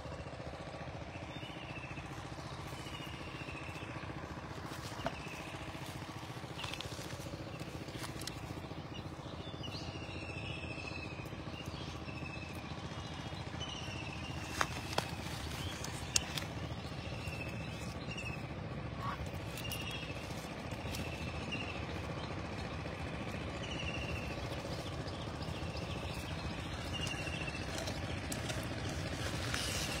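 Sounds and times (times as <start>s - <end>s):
low outdoor background noise: 0.0s - 30.0s.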